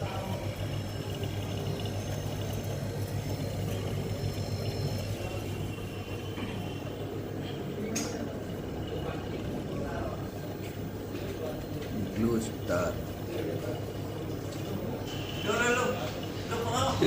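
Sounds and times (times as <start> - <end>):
freezer compressor humming: 0.0 - 17.0.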